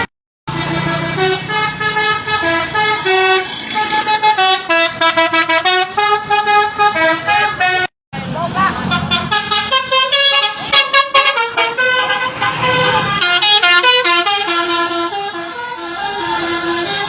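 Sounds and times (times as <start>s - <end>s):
multi-tone bus horn melody: 0.0s - 7.9s, 8.8s - 17.0s.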